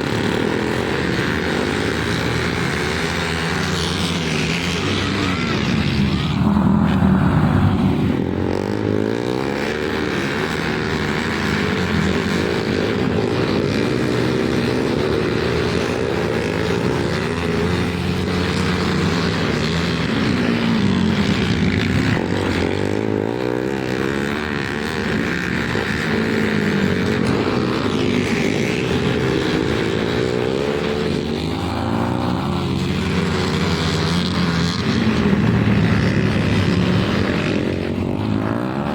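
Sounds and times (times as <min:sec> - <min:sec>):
racing motorcycle engines: 0:00.0 - 0:38.9.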